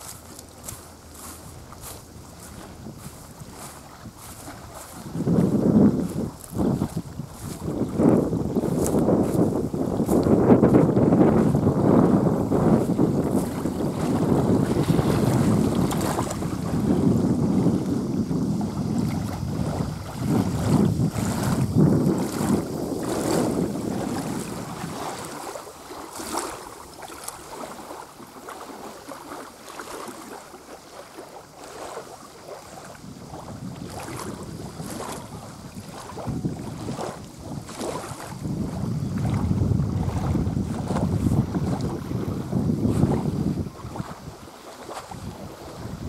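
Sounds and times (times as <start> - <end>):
wind buffeting microphone: 0.0 - 30.4, 31.6 - 46.0
small waves lapping shore: 0.0 - 46.0.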